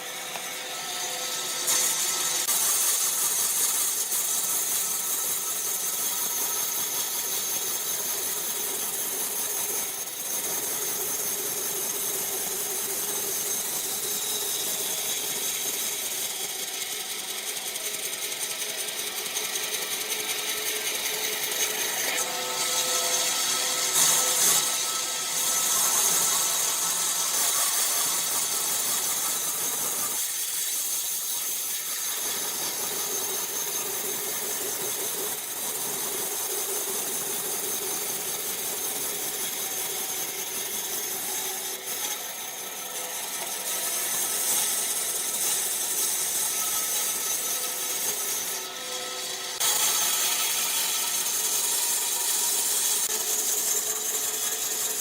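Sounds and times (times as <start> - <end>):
power saw cutting wood: 0.0 - 55.0.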